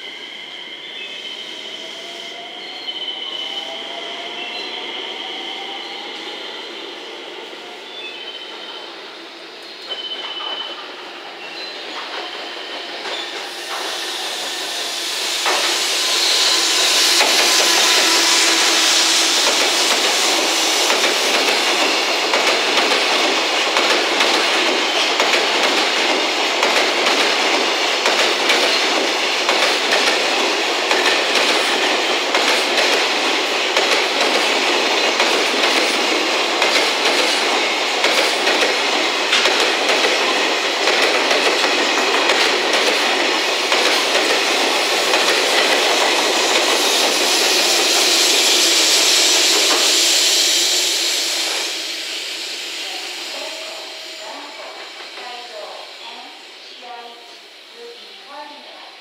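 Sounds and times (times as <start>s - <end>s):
electric locomotive passing: 0.0s - 59.0s.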